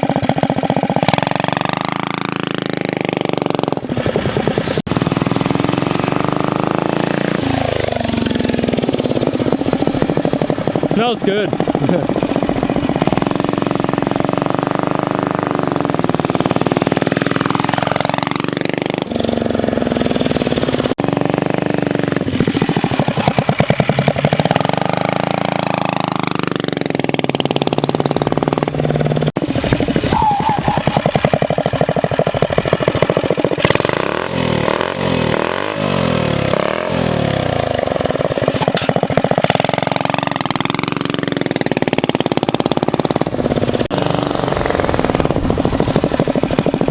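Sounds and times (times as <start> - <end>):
minibike engine revving: 0.0 - 46.9.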